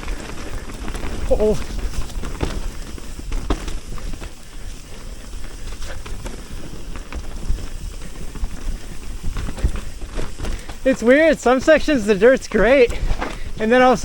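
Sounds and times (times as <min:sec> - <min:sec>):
bike knocking and rattling: 0:00.0 - 0:14.0
tyres rumbling on dirt: 0:00.0 - 0:14.0.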